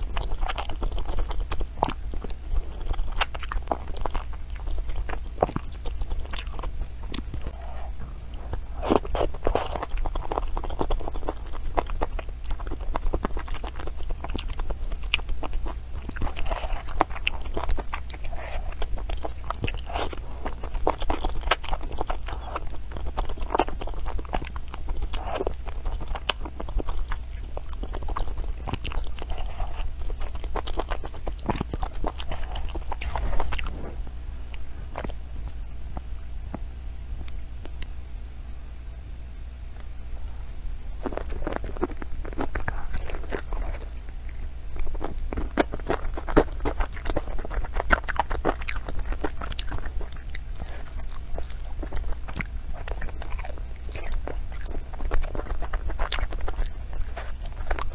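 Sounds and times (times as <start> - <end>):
chewing crunchy food: 0.0 - 36.1, 40.7 - 57.9.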